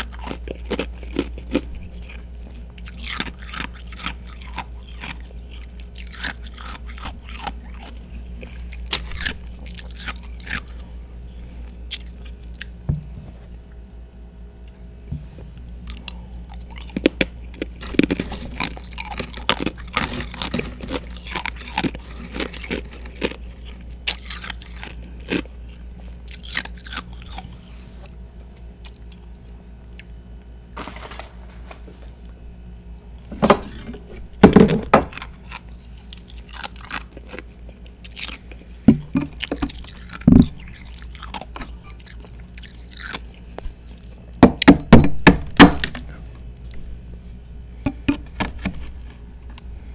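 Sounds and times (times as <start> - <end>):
ice crunching being chewed: 0.0 - 12.8, 15.5 - 33.9, 35.1 - 44.4, 45.8 - 49.9
low steady hum: 0.0 - 49.9.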